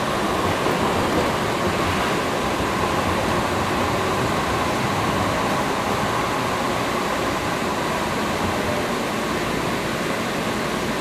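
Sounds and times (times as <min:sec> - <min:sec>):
light rail car running noise: 0:00.0 - 0:11.0.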